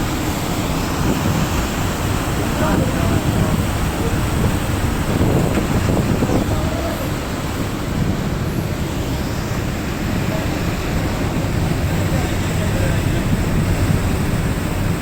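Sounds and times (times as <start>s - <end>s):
ferry engines running: 0.0s - 15.0s
water rushing: 0.0s - 15.0s
wind noise on microphone: 0.0s - 15.0s.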